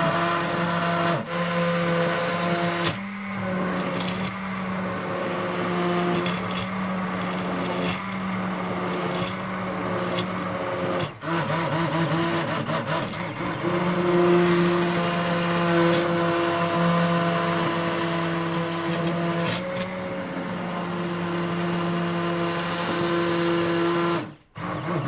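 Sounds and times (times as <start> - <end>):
electric blender motor: 0.0 - 25.0.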